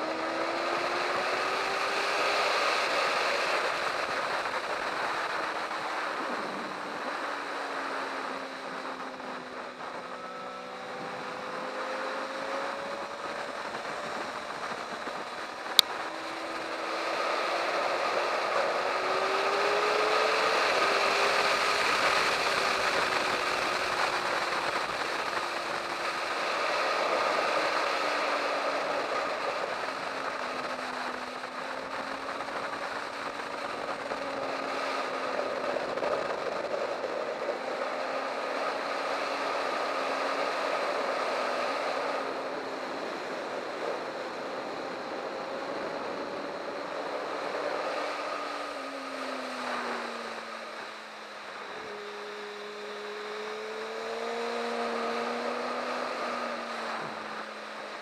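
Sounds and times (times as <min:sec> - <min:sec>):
motorcycle engine revving: 0:00.0 - 0:58.0
wind rushing over camera: 0:00.0 - 0:58.0.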